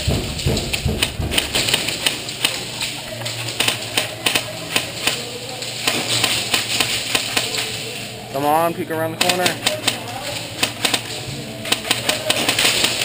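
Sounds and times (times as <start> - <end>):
airsoft guns firing: 0.0 - 7.9, 9.1 - 13.0.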